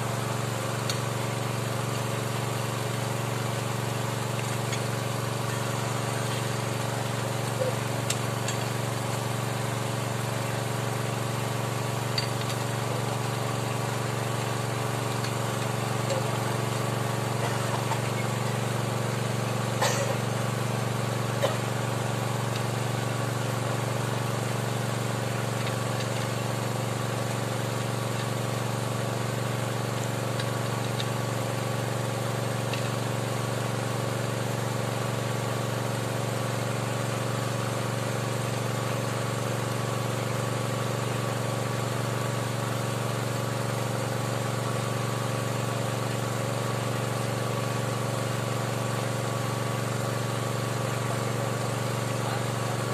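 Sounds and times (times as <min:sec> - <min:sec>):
small engine running steadily: 0:00.0 - 0:52.9.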